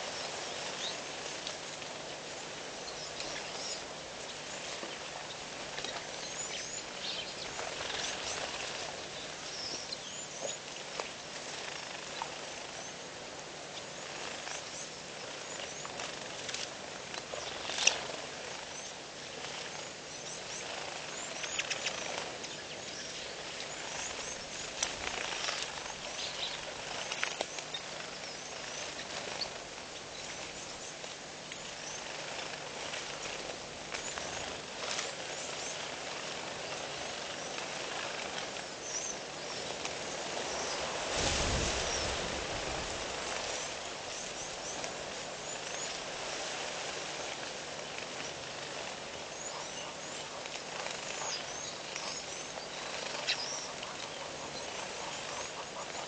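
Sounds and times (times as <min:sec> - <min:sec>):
small birds chirping: 0:00.0 - 0:56.0
steady hiss: 0:00.0 - 0:56.0.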